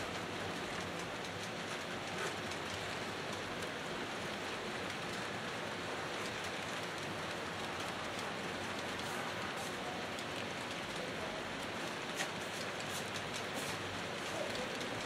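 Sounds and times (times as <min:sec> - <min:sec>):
model train wheels and motors rumbling: 0:00.0 - 0:15.0.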